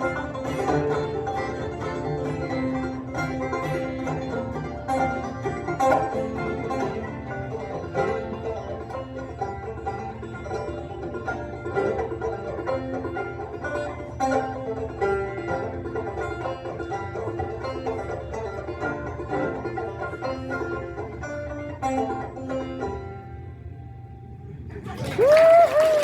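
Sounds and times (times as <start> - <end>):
acoustic guitar accompaniment: 0.0 - 23.5
banjo playing bluegrass: 0.0 - 23.9.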